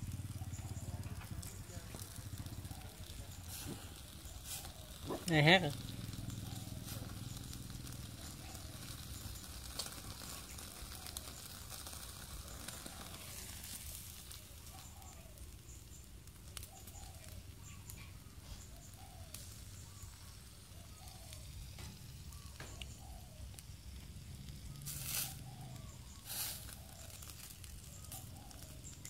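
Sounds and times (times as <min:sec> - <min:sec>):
fat crackling and popping: 0:00.0 - 0:29.0
meat sizzling on grill: 0:00.0 - 0:29.0.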